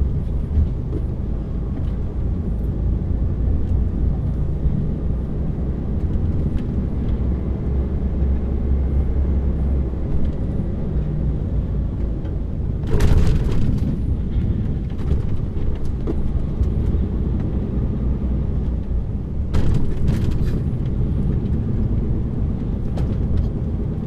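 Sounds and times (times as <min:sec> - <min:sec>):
lorry engine droning from cab: 0:00.0 - 0:24.0.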